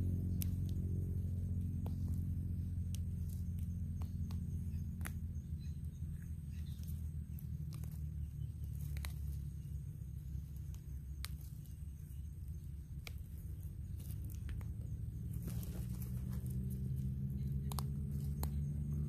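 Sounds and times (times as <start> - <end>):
dry leaves and twigs rustling: 0.0 - 19.0
low steady drone: 0.0 - 19.0.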